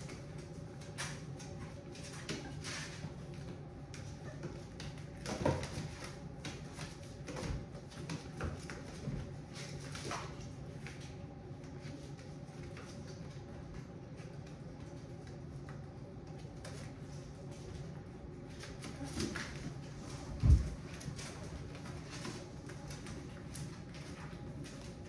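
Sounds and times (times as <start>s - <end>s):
puppies scratching and knocking: 0.0s - 25.0s
steady low hum: 0.0s - 25.0s.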